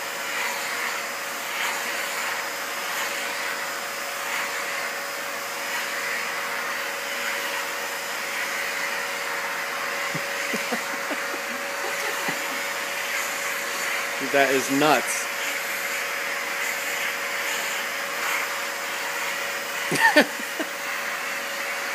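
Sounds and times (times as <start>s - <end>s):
vacuum cleaner whining: 0.0s - 21.9s.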